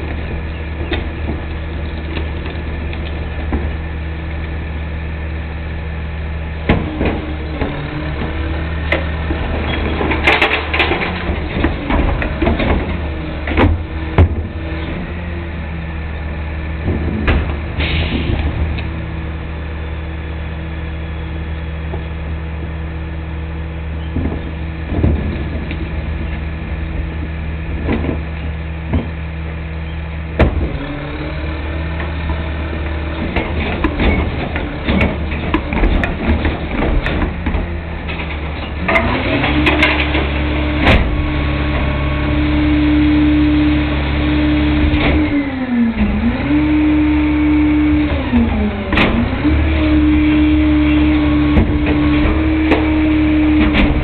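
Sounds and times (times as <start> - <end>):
garbage truck engine revving: 0.0 - 54.0
trash dumping: 6.2 - 54.0.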